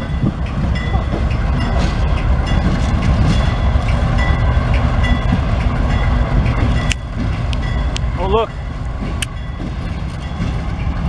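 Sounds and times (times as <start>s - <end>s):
diesel locomotive engine rumble: 0.0s - 11.0s
train wheels on rails: 0.0s - 11.0s.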